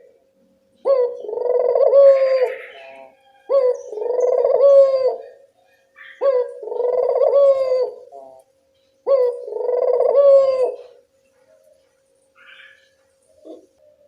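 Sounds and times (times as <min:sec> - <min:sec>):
dove cooing: 0:00.8 - 0:14.0.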